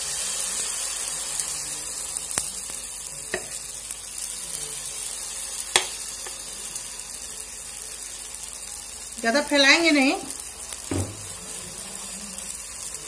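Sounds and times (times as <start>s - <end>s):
batter sizzling in oil: 0.0s - 13.0s.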